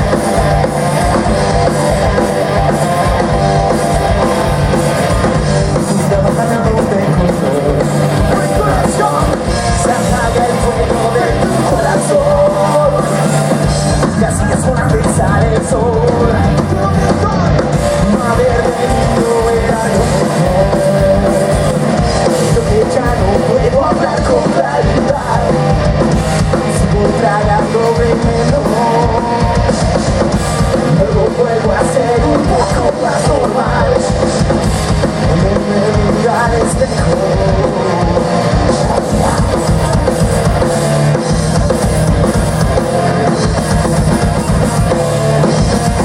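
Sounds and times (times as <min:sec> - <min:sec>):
drum kit beat: 0:00.0 - 0:46.0
live rock band playing: 0:00.0 - 0:46.0.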